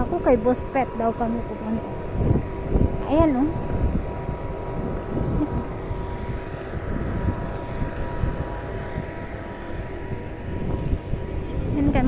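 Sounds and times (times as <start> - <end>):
outdoor rumbling noise: 0.0 - 12.0.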